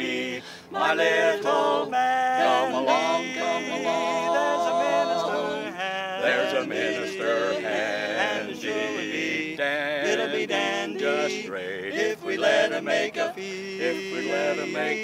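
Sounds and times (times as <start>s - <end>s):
male quartet singing a cappella: 0.0s - 15.0s.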